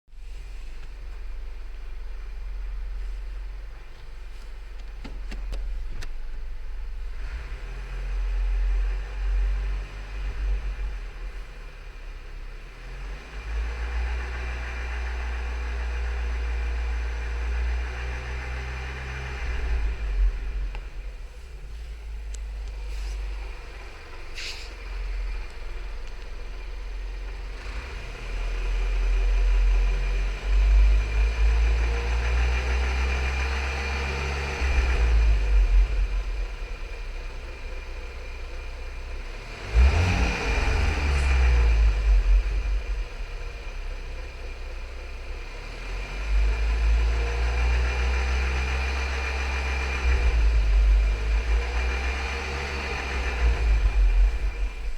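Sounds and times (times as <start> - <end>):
car engine humming: 0.1 - 54.9.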